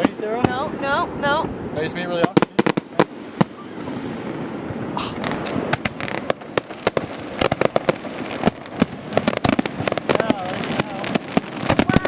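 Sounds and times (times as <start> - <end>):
fireworks bangs and crackles: 0.0 - 12.0
fireworks rumble: 0.0 - 12.0.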